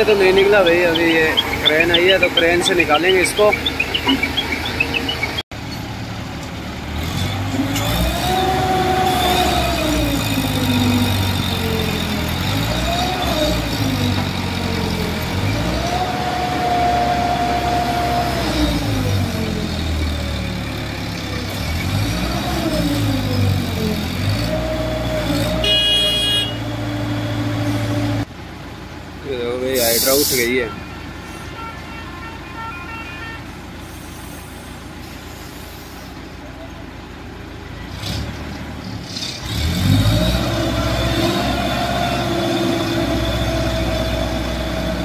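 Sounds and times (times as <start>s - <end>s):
diesel crane engine revving: 0.0s - 30.4s, 33.6s - 45.0s.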